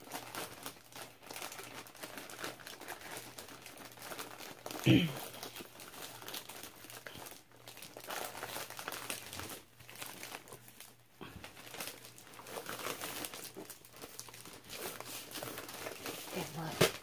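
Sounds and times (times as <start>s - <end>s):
plastic sleeve crinkling: 0.0s - 17.0s.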